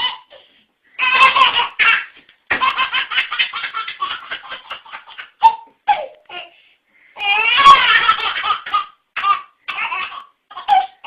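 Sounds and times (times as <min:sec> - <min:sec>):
baby laughing: 0:00.0 - 0:00.4, 0:01.0 - 0:06.5, 0:07.2 - 0:11.0.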